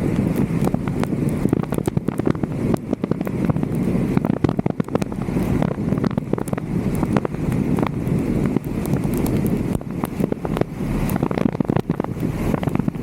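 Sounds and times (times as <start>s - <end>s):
raindrops ticking on camera: 0.0s - 13.0s
wind rushing over microphone: 0.0s - 13.0s.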